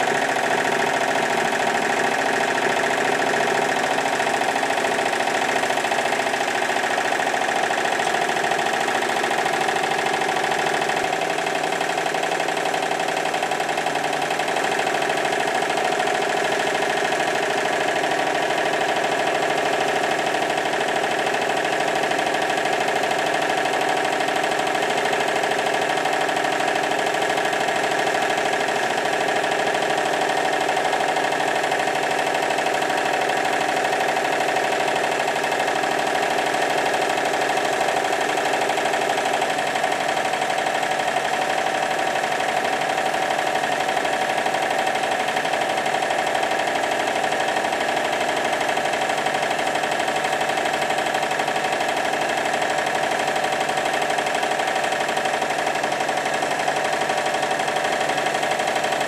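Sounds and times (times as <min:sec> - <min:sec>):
steam engine mechanical clatter: 0:00.0 - 0:59.0.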